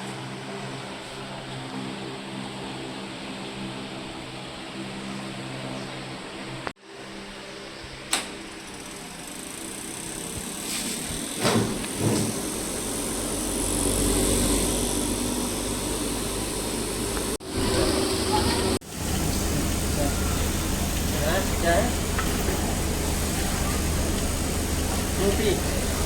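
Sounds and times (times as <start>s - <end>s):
spinner motor humming: 1.7s - 26.0s.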